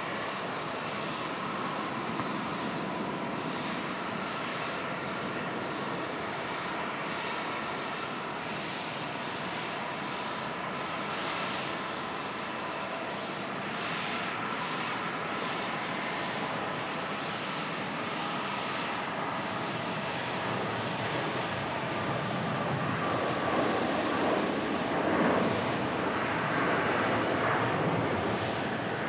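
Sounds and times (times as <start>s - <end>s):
faint engine whine: 0.0s - 29.0s
jet engine roar at takeoff: 0.0s - 29.0s.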